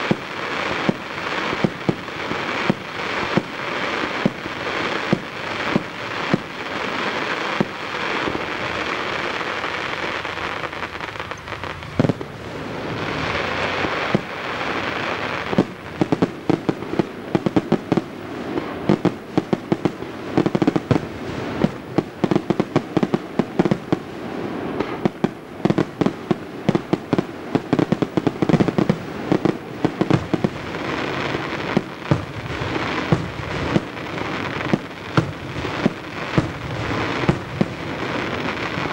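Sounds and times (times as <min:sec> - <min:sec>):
crackling hiss of firework stars: 0:00.0 - 0:38.9
sharp firework bangs: 0:00.0 - 0:38.9.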